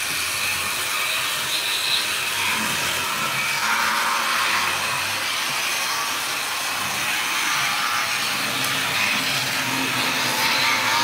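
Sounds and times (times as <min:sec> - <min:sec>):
small electric motors whirring: 0:00.0 - 0:11.0.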